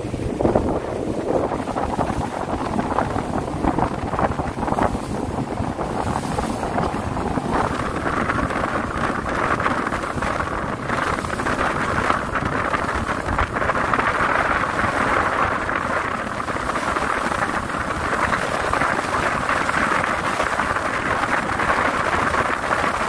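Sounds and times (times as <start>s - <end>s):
boat engine: 0.0s - 23.0s
water along boat hull: 0.0s - 23.0s
wind rushing on microphone: 0.0s - 23.0s.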